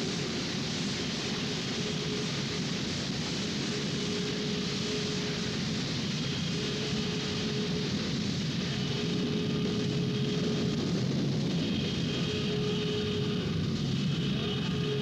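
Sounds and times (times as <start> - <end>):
film score drone: 0.0 - 15.0.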